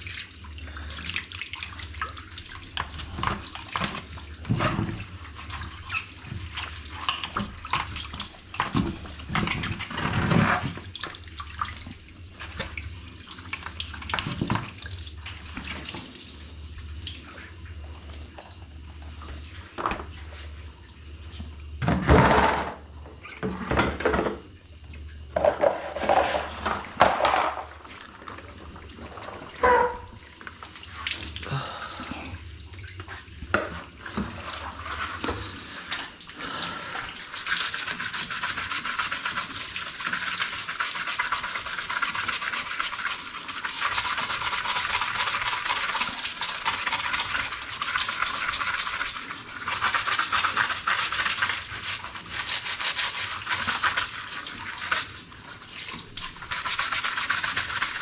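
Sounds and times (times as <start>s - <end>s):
water running from a tap: 0.0s - 19.6s, 25.4s - 58.0s.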